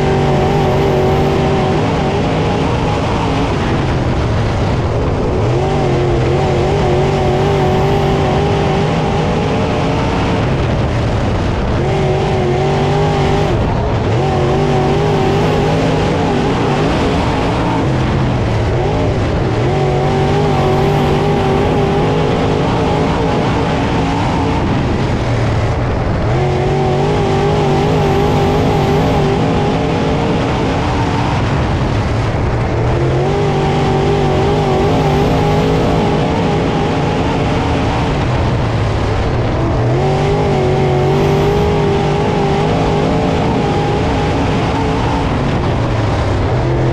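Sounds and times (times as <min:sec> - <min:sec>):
race car engine: 0:00.0 - 0:46.9.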